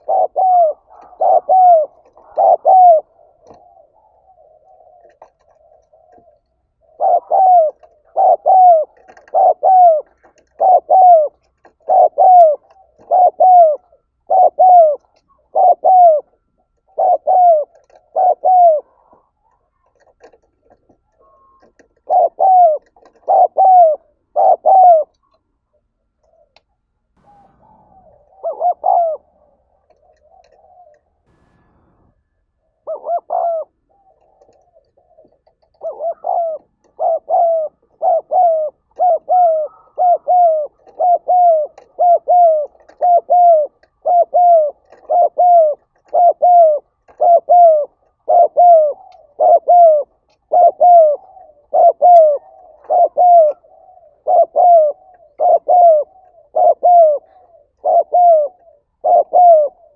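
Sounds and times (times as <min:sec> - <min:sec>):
dove cooing: 0:00.0 - 0:26.6, 0:27.2 - 0:31.3, 0:32.7 - 0:59.9.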